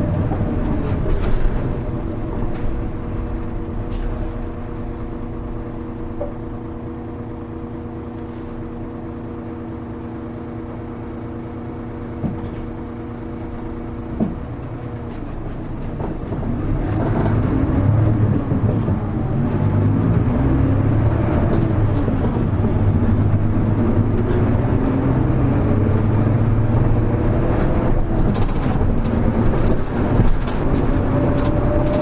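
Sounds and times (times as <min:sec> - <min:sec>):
bus diesel engine: 0:00.0 - 0:32.0.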